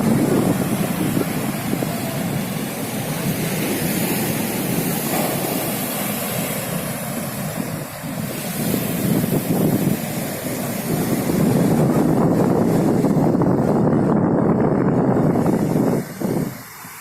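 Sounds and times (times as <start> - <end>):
ocean surf crashing: 0.0 - 17.0
wind rumbling on microphone: 0.0 - 17.0.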